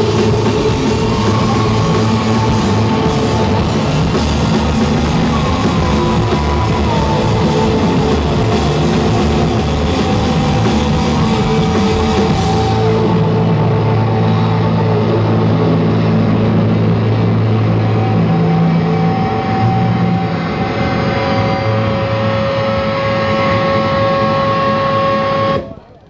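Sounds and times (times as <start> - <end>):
rock band playing live: 0.0 - 25.8.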